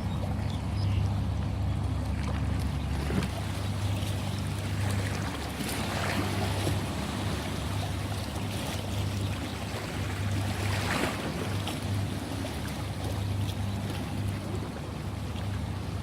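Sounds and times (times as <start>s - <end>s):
ocean waves washing in: 3.0s - 16.0s.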